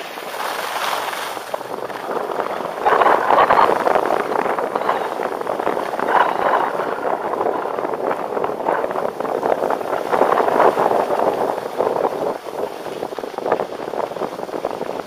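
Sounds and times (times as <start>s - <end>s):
skis scraping over snow: 0.0s - 15.0s.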